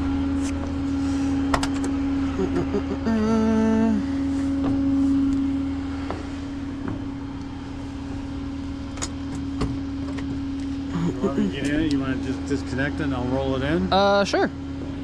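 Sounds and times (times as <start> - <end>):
tow truck engine hum: 0.0 - 15.0.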